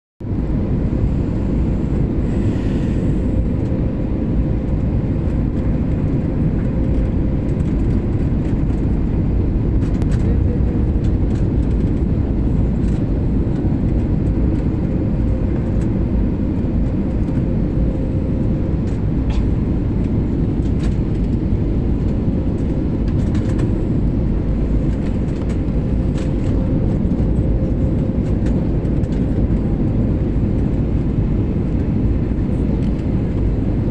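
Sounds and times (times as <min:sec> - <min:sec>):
airliner cabin noise: 0:00.2 - 0:33.9.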